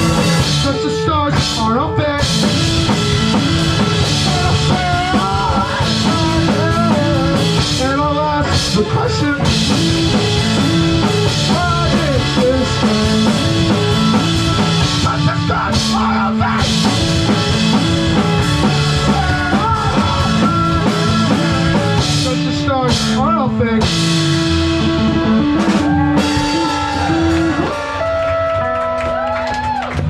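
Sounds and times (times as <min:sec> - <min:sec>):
live rock band playing: 0:00.0 - 0:29.8
drum kit: 0:00.0 - 0:30.0
electric guitar: 0:00.0 - 0:30.0.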